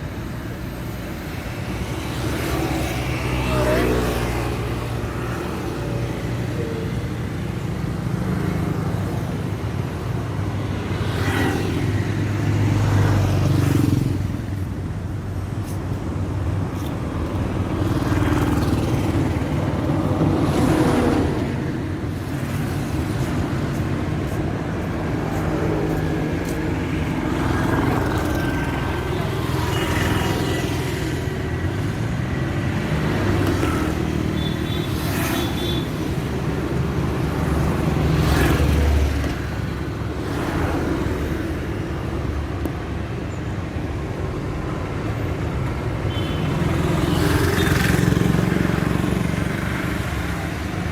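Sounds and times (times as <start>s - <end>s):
highway traffic rumble: 0.0s - 50.9s
vehicles passing: 0.0s - 50.9s.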